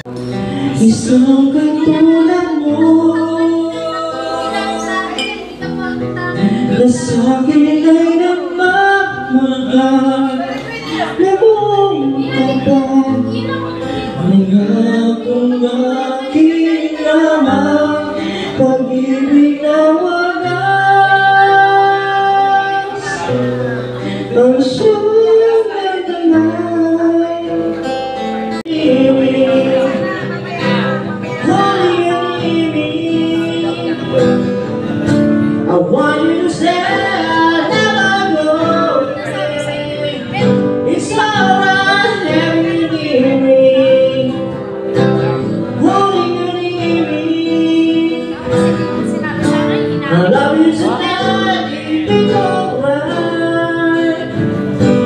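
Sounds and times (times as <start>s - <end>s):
man singing into a microphone: 0.0s - 5.4s, 6.1s - 55.0s
acoustic guitar strumming: 0.0s - 55.0s.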